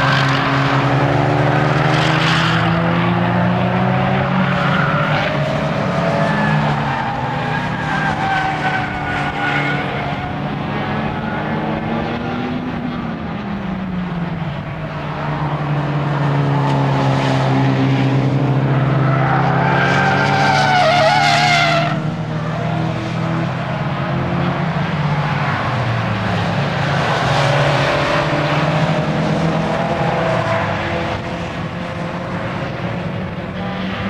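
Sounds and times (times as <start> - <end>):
car engine driven hard: 0.0 - 34.0.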